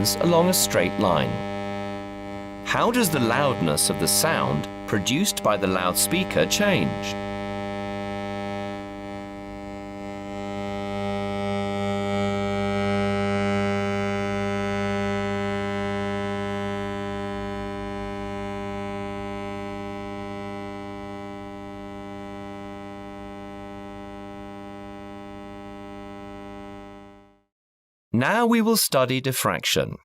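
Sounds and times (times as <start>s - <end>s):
humming electronic tone: 0.0s - 27.5s.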